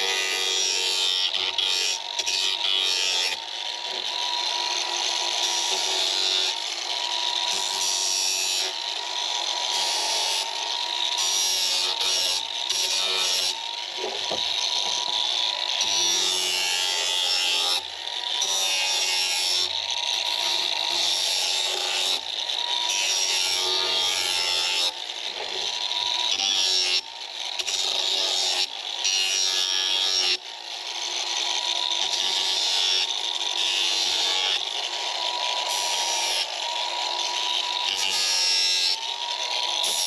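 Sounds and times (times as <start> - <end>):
orbital sander whining: 0.0 - 26.3, 30.4 - 40.0.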